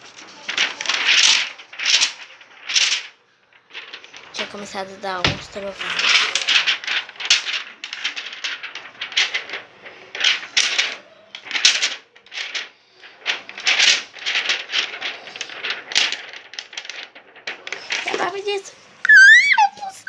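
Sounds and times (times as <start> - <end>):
plastic toys clattering: 0.0 - 20.0.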